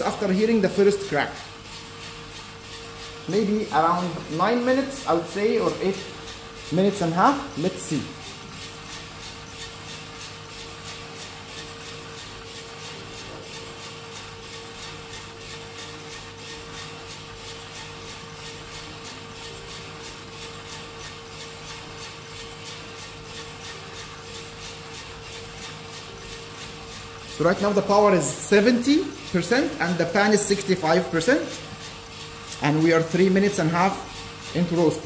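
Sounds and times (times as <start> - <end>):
beans tumbling in roaster drum: 0.0 - 35.0
roaster fan humming: 0.0 - 35.0.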